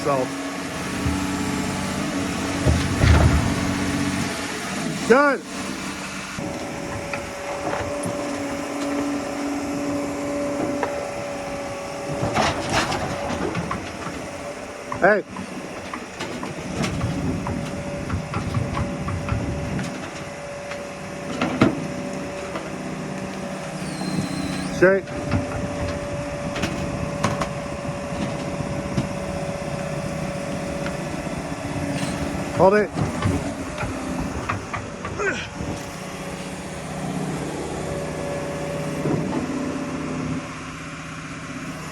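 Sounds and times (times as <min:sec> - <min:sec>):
excavator running with whine: 0:00.0 - 0:41.9.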